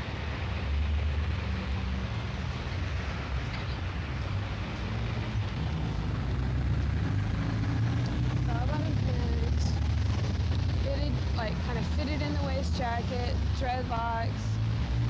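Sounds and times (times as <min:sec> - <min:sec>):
hiss of street sound: 0:00.0 - 0:15.0
passing vehicles rumbling: 0:00.0 - 0:15.0.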